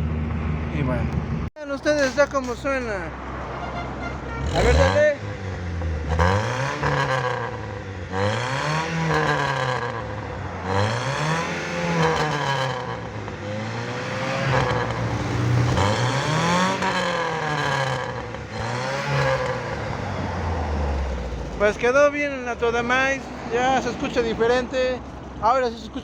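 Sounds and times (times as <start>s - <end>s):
car engine revving: 0.0s - 25.5s.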